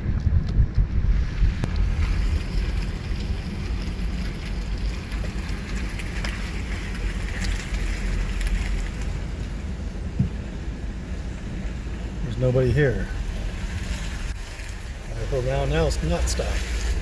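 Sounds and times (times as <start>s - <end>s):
car driving interior rumble: 0.0s - 17.0s
tyre and road hiss: 1.1s - 17.0s.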